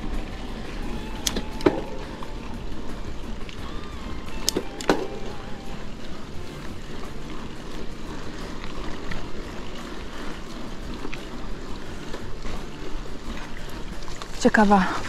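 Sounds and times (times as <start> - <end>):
bicycle tyres rolling on dirt: 0.0 - 15.0
wind rumbling on microphone: 0.0 - 15.0.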